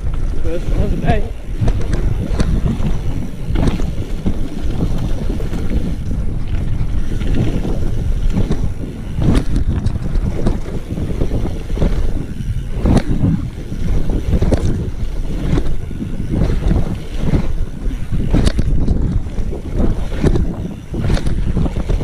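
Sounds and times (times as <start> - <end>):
steady low rumble: 0.0 - 22.0
wind buffeting microphone: 0.0 - 22.0.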